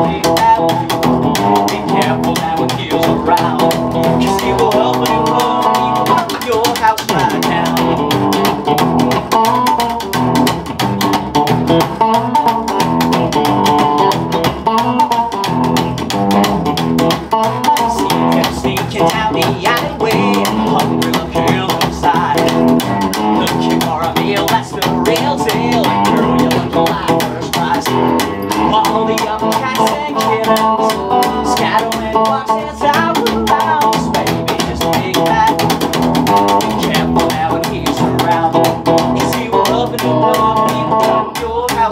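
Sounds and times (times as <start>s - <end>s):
electric guitar: 0.0s - 41.9s
upright double bass: 0.0s - 41.9s.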